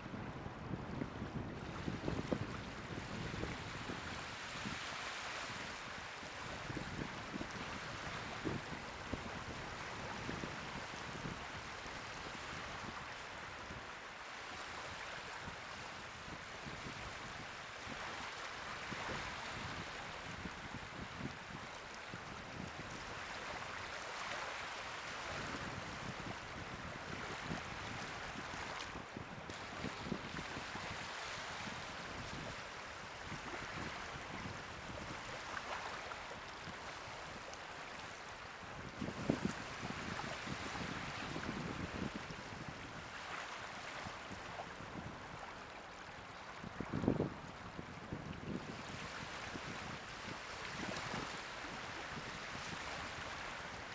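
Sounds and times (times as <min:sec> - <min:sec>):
wind buffeting microphone: 0:00.0 - 0:13.9, 0:14.9 - 0:23.8, 0:25.2 - 0:38.0, 0:38.8 - 0:43.3, 0:43.9 - 0:45.5, 0:46.6 - 0:53.9
sea waves washing in: 0:01.5 - 0:47.9, 0:48.5 - 0:53.9.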